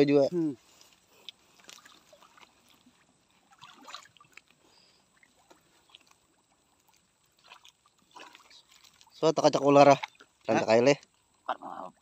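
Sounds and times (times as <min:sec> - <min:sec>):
small water splashes: 0:00.6 - 0:12.0.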